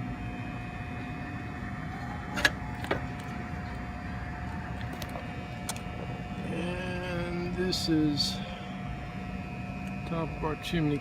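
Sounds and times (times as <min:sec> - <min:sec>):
faint steady whine: 0:00.0 - 0:11.0
hvac equipment drone: 0:00.0 - 0:11.0.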